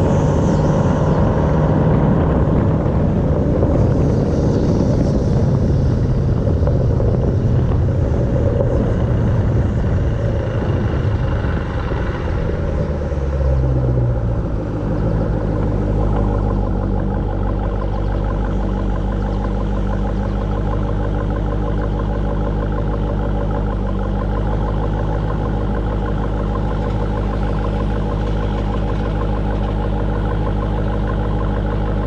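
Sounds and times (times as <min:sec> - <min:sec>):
engine rumbling at steady revs: 0:00.0 - 0:32.0.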